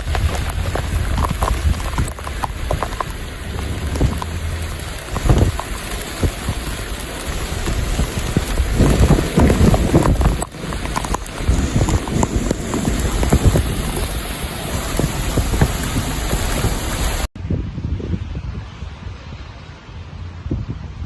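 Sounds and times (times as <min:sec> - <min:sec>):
rain falling: 0:00.0 - 0:17.3
wind buffeting microphone: 0:00.0 - 0:21.0.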